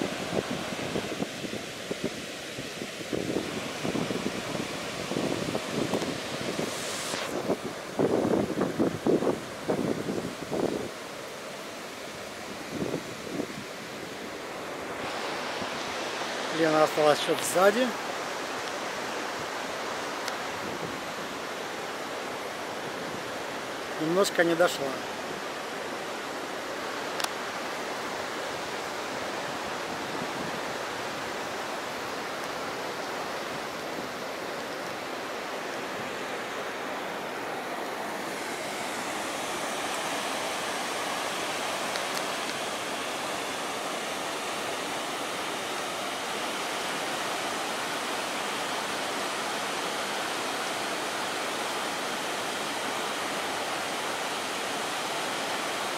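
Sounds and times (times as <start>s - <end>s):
waterfall rushing over rock: 0.0s - 55.9s.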